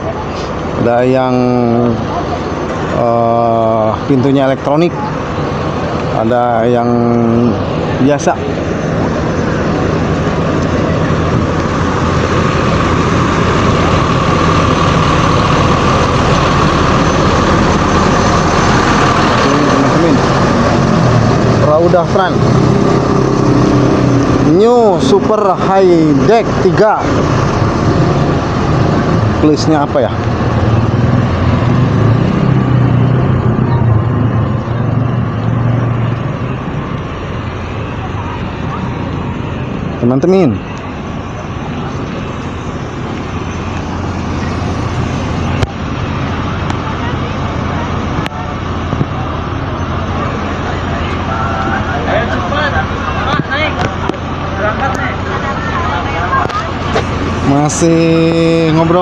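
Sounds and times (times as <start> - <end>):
diesel engine idling: 0.0 - 59.0
steady engine whine: 0.0 - 59.0.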